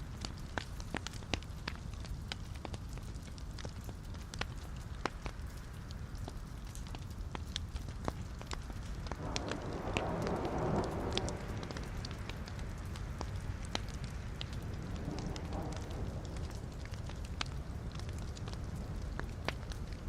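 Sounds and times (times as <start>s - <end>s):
low rumble of flame: 0.0s - 20.0s
rushing hiss of fire: 0.0s - 20.0s
wood fire crackling and popping: 0.0s - 20.0s.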